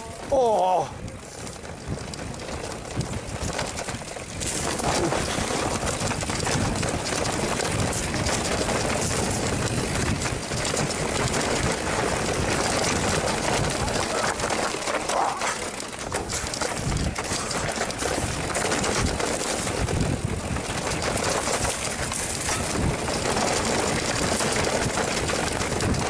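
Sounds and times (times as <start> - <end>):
bike rattling: 0.0 - 26.0
tyres rumbling over stones: 0.1 - 26.0.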